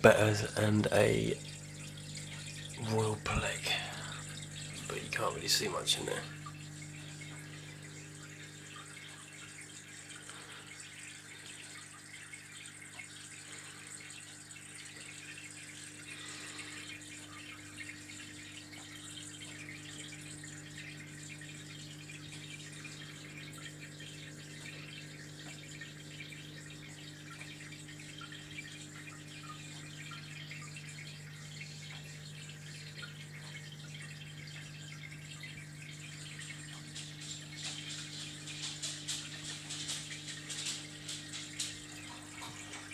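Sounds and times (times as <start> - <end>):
aquarium filter hum: 0.0 - 42.9
water trickling: 0.0 - 42.9.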